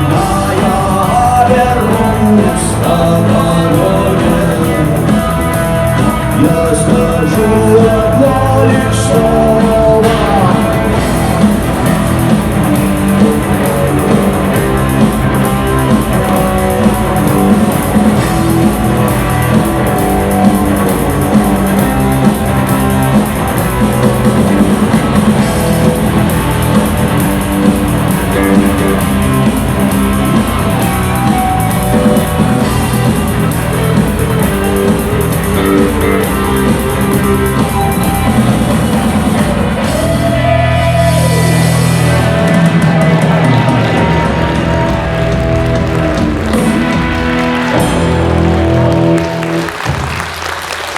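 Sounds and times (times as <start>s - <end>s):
steady drum strokes: 0.0s - 50.4s
live rock band playing: 0.0s - 50.9s.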